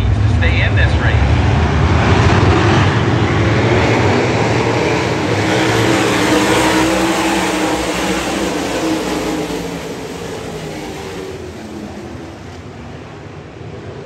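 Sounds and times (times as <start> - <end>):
race cars engines roaring past: 0.0 - 14.0.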